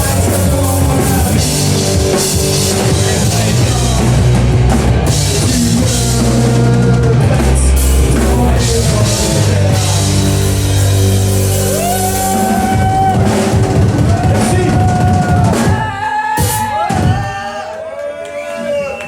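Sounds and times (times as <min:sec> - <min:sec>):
distorted guitars: 0:00.0 - 0:17.1
bass: 0:00.0 - 0:17.4
drum kit with cymbals: 0:00.0 - 0:17.5.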